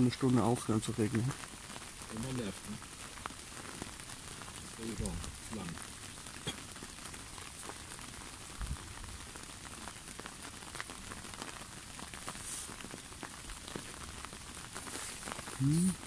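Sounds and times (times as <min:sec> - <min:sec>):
rain on lake surface: 0:00.0 - 0:16.0
rain pattering on umbrella: 0:00.0 - 0:16.0.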